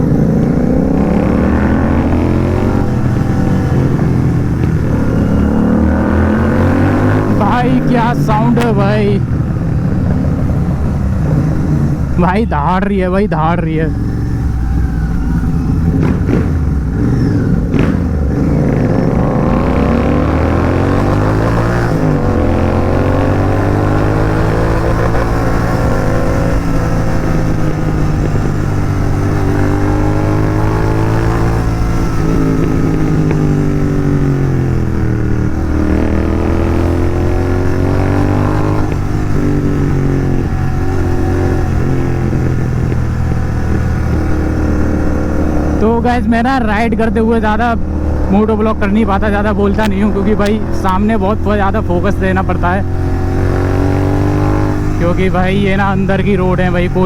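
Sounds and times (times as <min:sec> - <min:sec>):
motorcycle engine roaring: 0:00.0 - 0:57.0.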